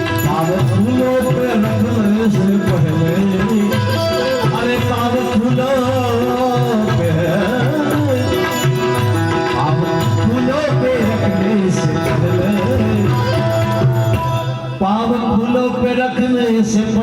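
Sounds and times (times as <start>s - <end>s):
hand drum rhythm: 0.0s - 14.7s
devotional song melody: 0.0s - 17.0s.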